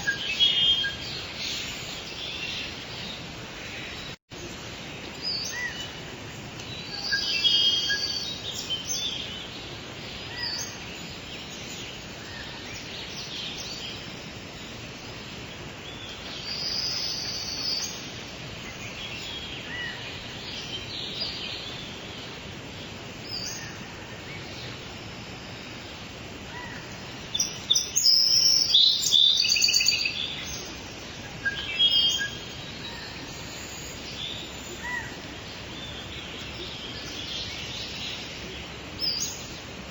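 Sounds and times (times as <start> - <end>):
rain hiss: 0.0 - 39.9
songbirds singing and chirping: 0.0 - 39.9.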